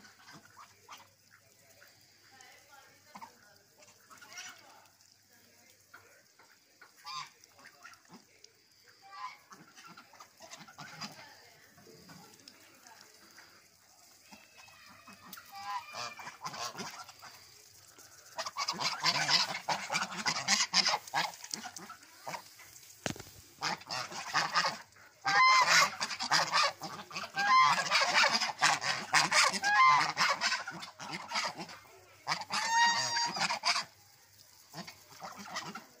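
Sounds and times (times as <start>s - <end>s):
geese soft calls: 0.0s - 5.2s, 5.8s - 36.0s
geese pecking grass: 0.0s - 36.0s.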